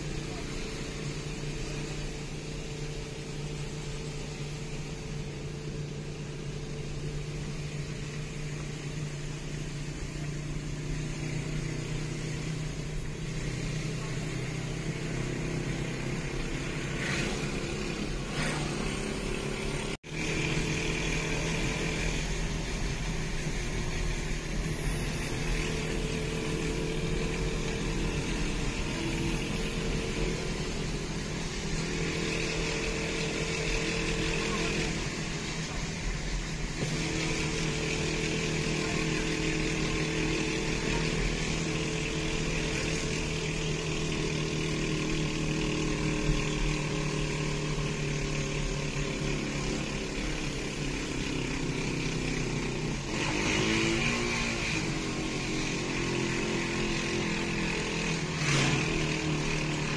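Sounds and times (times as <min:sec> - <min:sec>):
engine drone: 0:00.0 - 0:59.9
road noise: 0:00.0 - 0:59.9.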